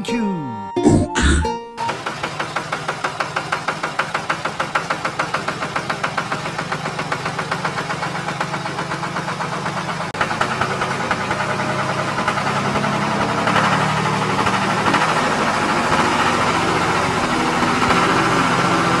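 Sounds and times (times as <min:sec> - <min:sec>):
tractor engine knocking: 0:01.8 - 0:19.0.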